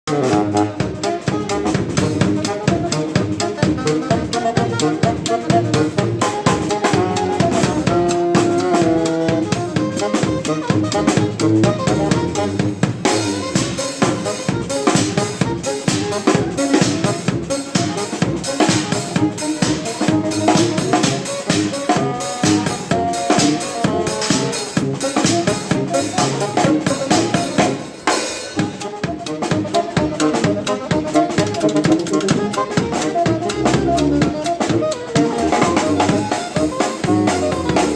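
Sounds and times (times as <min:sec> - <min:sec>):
drum kit beating busy rhythm: 0:00.0 - 0:37.9
held melody notes: 0:00.1 - 0:37.9.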